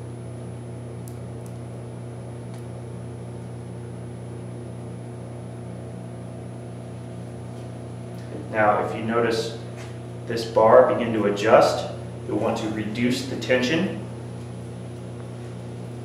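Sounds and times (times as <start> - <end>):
motors humming: 0.6 - 16.0.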